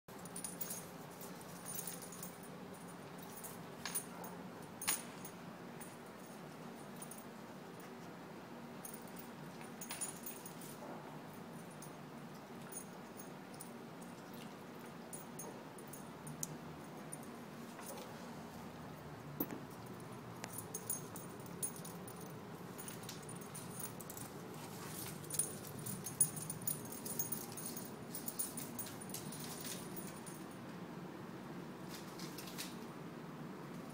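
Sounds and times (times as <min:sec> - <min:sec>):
collar tags jingling: 0:00.1 - 0:08.0, 0:08.8 - 0:18.2, 0:19.1 - 0:30.7.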